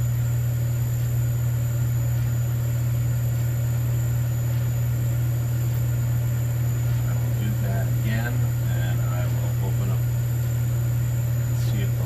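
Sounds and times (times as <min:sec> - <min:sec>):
low electric hum of pumps and fans: 0:00.0 - 0:12.0.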